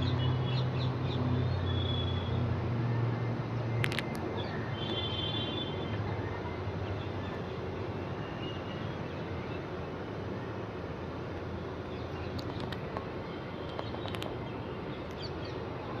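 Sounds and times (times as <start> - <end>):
airplane engines rumbling: 0.0 - 16.0.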